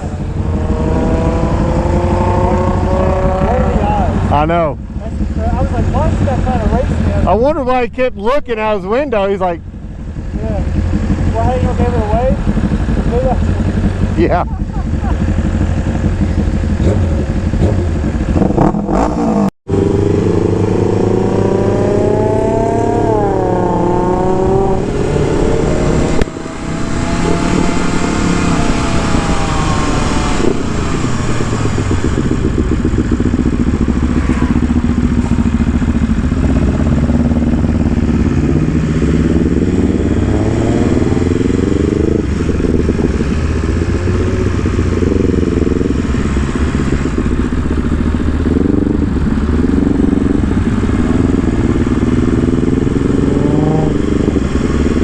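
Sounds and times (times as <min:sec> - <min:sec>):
motorcycle engine revving: 0:00.0 - 0:07.9, 0:08.5 - 0:55.0
wind noise: 0:00.0 - 0:55.0.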